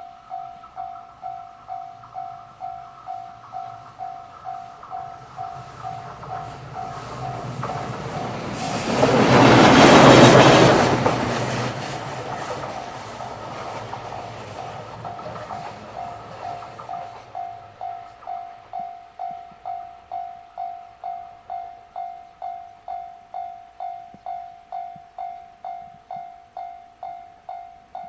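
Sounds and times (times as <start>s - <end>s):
level crossing warning bell: 0.0s - 11.2s, 15.1s - 28.0s
train passing: 0.0s - 28.0s.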